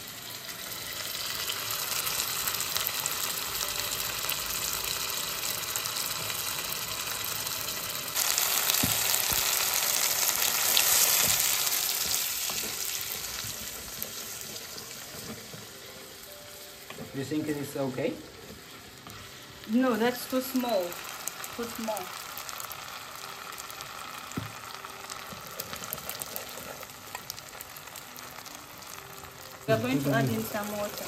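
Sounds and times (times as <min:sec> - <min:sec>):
vegetables sizzling in hot oil: 0:00.0 - 0:31.0.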